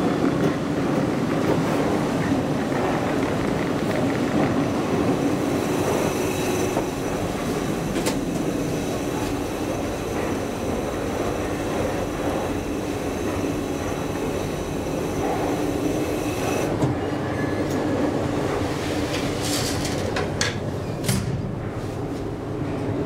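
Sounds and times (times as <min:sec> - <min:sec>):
elevator car rumble: 0:00.0 - 0:23.0.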